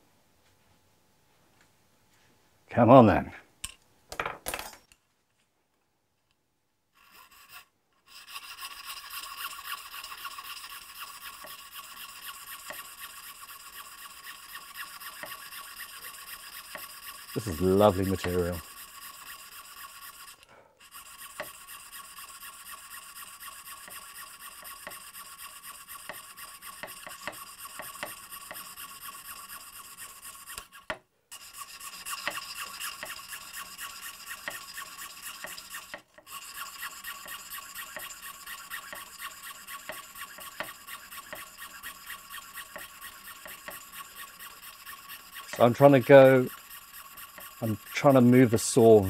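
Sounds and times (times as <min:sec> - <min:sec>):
saw rasping through shell: 0:06.9 - 0:49.0.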